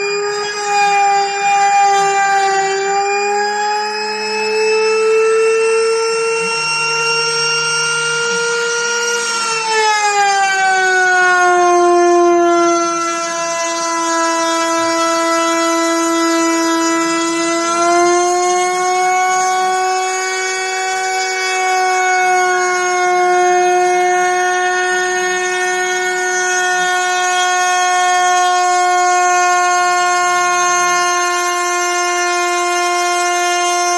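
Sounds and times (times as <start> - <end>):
router spindle whining: 0.0 - 33.9.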